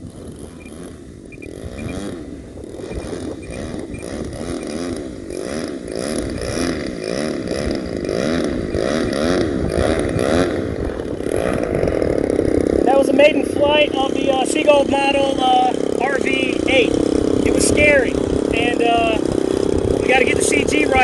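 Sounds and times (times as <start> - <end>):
model plane engine wavering: 0.0 - 21.0.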